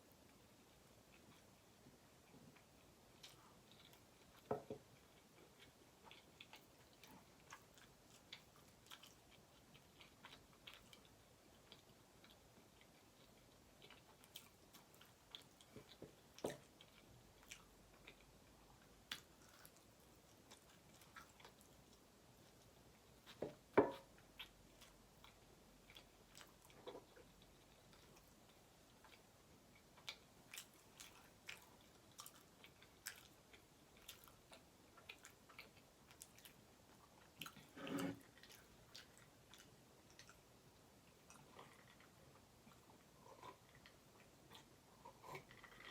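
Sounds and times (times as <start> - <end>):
close-miked chewing: 0.0 - 45.9.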